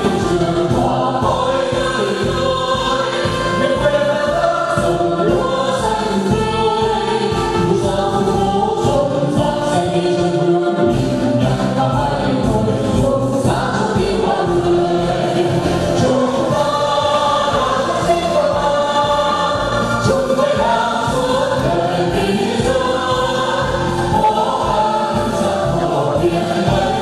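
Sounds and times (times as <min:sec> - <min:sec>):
choir singing with accompaniment: 0:00.0 - 0:27.0.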